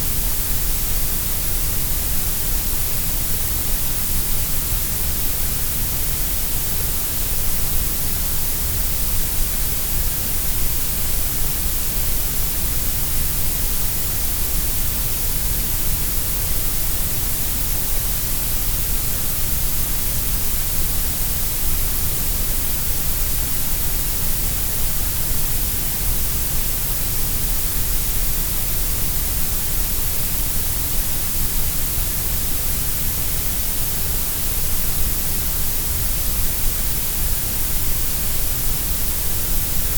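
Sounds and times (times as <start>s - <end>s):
steady grey noise hiss: 0.0s - 39.9s.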